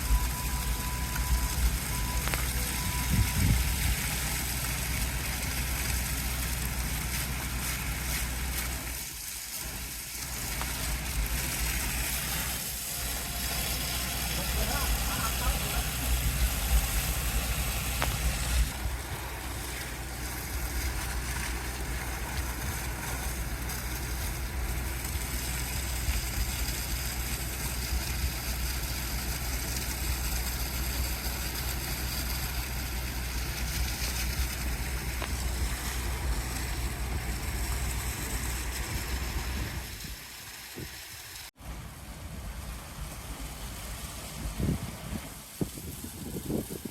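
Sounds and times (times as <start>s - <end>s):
high-pressure water spraying: 0.0s - 46.9s
truck engine running: 0.0s - 46.9s.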